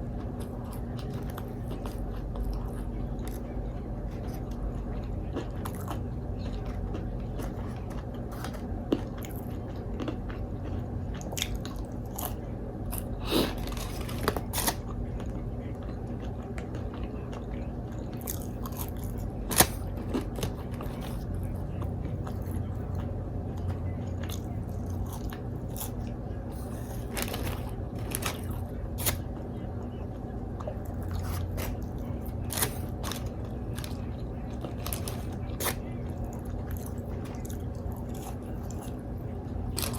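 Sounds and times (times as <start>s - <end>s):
person chewing and crunching: 0.0s - 39.9s
steady low hum: 0.0s - 39.9s.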